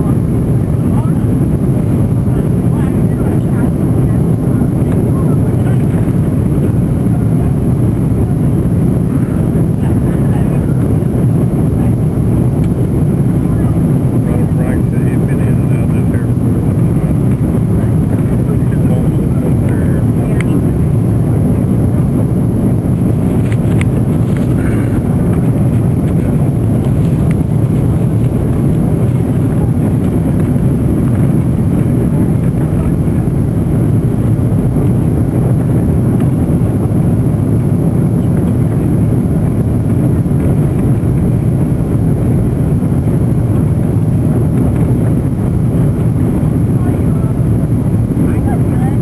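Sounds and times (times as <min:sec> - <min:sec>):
airplane cabin roar: 0:00.0 - 0:49.0.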